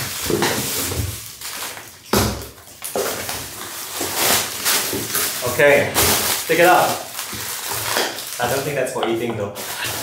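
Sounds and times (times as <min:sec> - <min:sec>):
plastic packing bags crinkling: 0:00.0 - 0:10.0.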